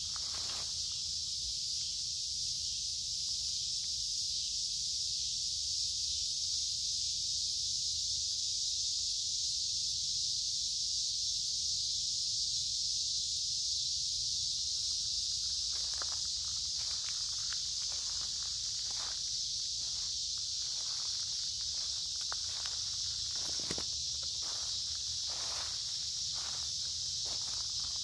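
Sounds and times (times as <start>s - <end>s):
cicadas droning: 0.0s - 28.0s.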